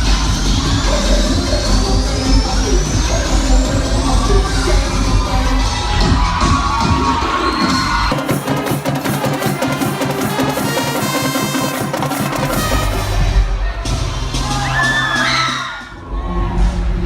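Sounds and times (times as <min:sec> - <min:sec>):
music with fast rhythmic drumming: 0:00.0 - 0:16.0.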